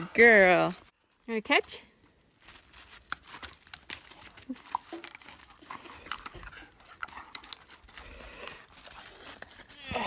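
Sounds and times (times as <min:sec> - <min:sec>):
paws crunching on gravel: 0:00.2 - 0:10.0.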